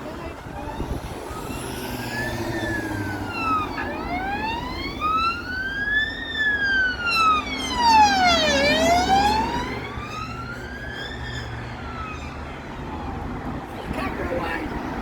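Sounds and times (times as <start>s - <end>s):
emergency vehicle siren wailing: 0.0s - 15.0s
low road traffic rumble: 0.0s - 15.0s.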